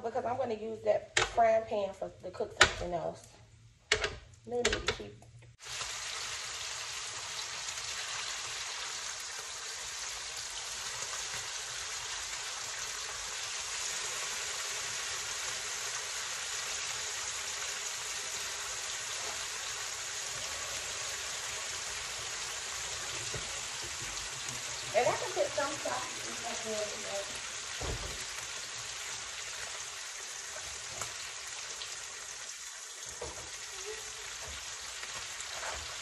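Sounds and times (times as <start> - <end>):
bacon sizzling in grease: 5.6 - 36.0.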